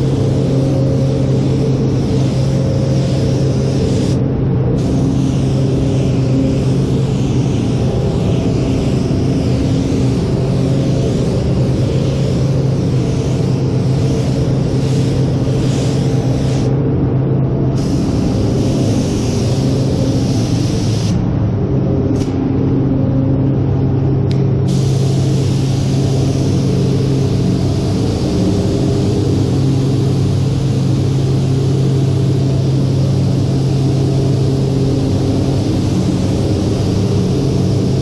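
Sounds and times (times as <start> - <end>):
spray gun hissing: 0.0 - 4.2, 4.8 - 16.8, 17.8 - 21.2, 24.7 - 38.0
low hum: 0.0 - 38.0.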